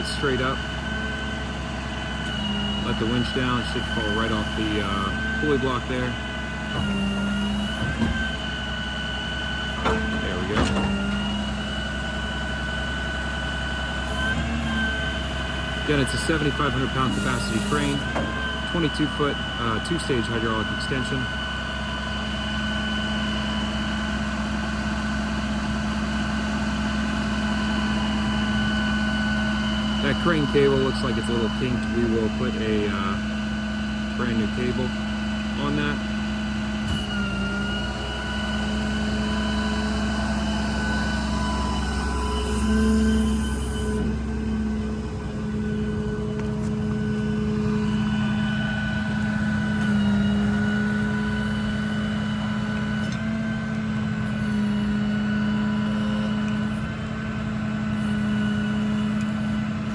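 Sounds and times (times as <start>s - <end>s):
diesel engine running: 0.0s - 59.9s
hydraulic pump whine: 0.0s - 59.9s.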